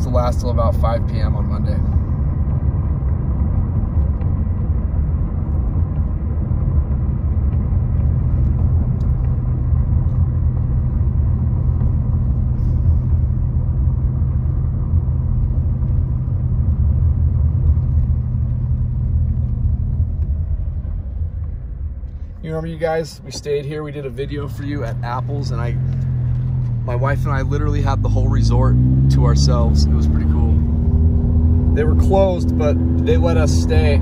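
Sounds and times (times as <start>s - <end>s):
car interior road rumble: 0.0s - 34.0s.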